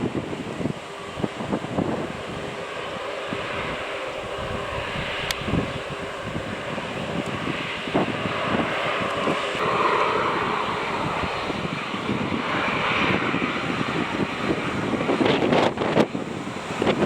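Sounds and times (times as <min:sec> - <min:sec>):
aircraft engine drone: 0:00.0 - 0:17.0
wind buffeting microphone: 0:00.0 - 0:17.0.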